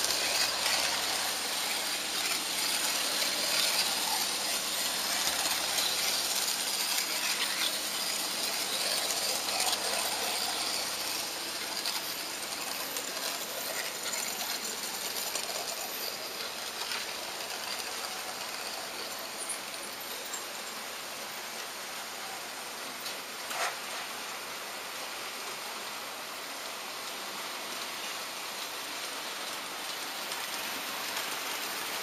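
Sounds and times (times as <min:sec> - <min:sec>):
model train motor whirring: 0:00.0 - 0:32.0
wheels rolling on rails: 0:00.0 - 0:32.0.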